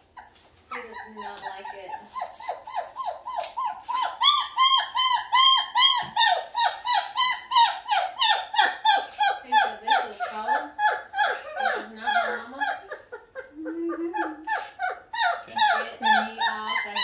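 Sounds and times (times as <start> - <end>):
puppy crying: 0.0 - 17.0.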